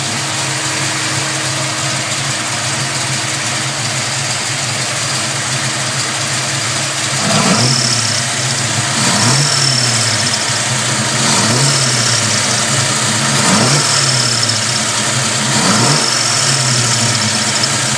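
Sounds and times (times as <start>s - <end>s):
car engine idling with revs: 0.0s - 17.9s.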